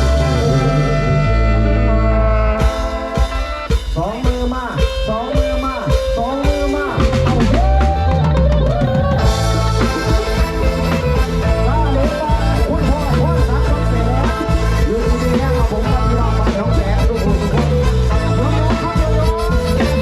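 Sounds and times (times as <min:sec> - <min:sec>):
pitch-bending melodic lead: 0:00.0 - 0:03.7, 0:05.3 - 0:20.0
bass line: 0:00.0 - 0:04.1, 0:04.8 - 0:20.0
drum kit hits and fills: 0:00.0 - 0:20.0
live band instrumental: 0:00.0 - 0:20.0.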